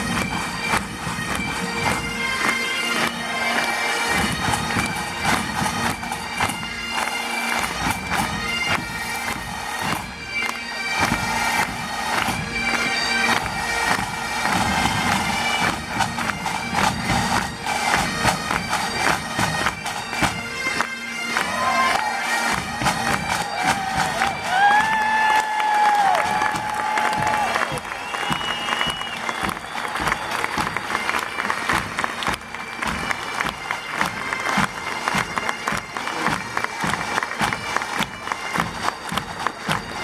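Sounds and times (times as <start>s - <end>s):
bagpipe chanter melody: 0.0s - 40.0s
bagpipe drone: 0.0s - 40.0s.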